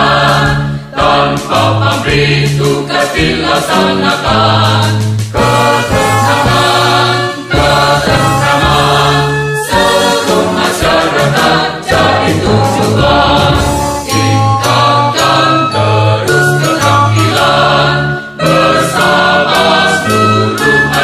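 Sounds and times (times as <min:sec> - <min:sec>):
choir singing with instruments: 0:00.0 - 0:21.0.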